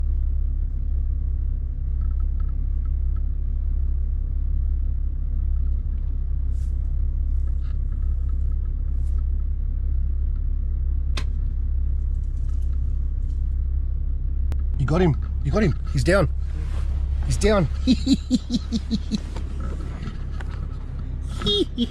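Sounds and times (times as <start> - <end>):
steady low rumble: 0.0 - 21.9.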